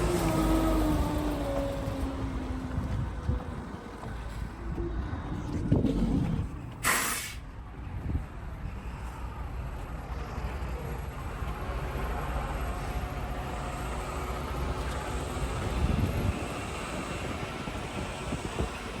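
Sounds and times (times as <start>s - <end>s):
truck diesel engine rumbling: 0.0s - 7.5s, 8.8s - 19.0s.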